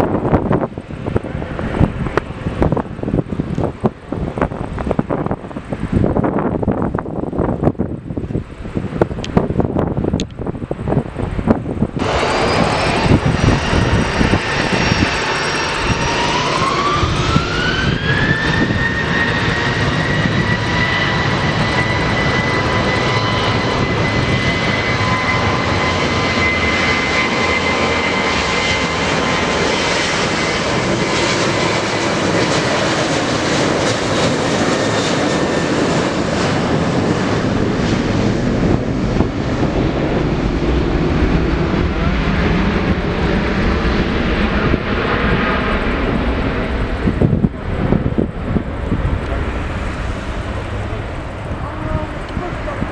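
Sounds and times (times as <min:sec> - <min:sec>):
jet engines whining and roaring: 0:00.0 - 0:52.9.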